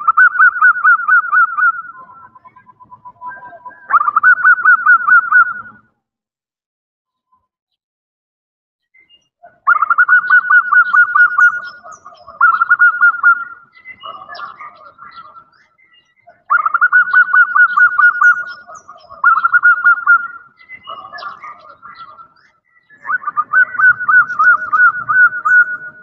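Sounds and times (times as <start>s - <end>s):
dove cooing trills: 0.0s - 5.9s, 9.4s - 26.0s.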